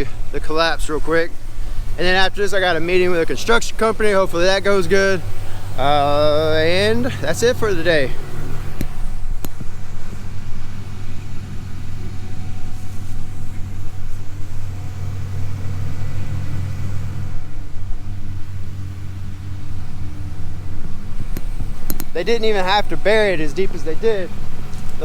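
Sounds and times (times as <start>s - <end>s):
heavy engine droning: 0.0s - 25.0s.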